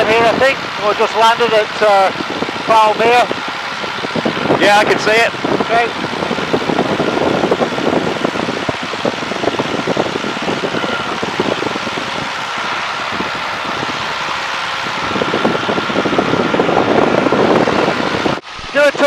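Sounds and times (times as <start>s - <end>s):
propeller plane engine in flight: 0.0s - 19.0s
slipstream rushing: 0.0s - 19.0s.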